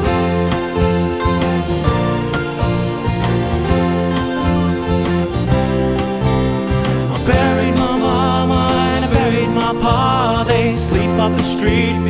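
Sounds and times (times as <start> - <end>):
acoustic guitar strumming: 0.0 - 12.0
folk-country band instrumental: 0.0 - 12.0.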